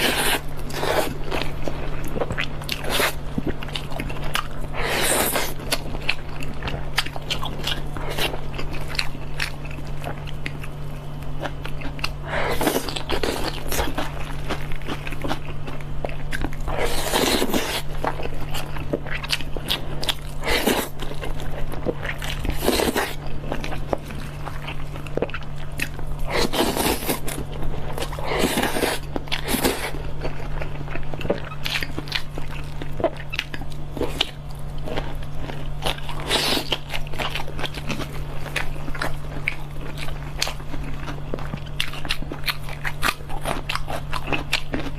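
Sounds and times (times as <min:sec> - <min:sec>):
chewing and wet mouth sounds: 0:00.0 - 0:44.9
steady low hum: 0:00.0 - 0:44.9.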